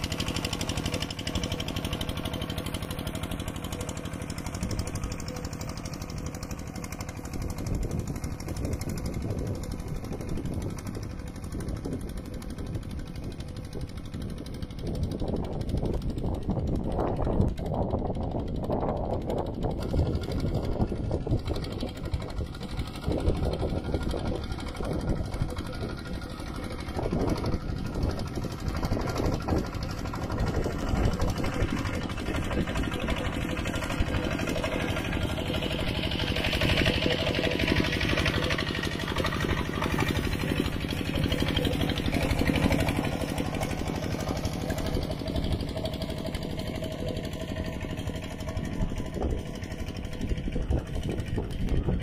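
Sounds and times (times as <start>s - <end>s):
walking tractor engine running: 0.0s - 52.0s.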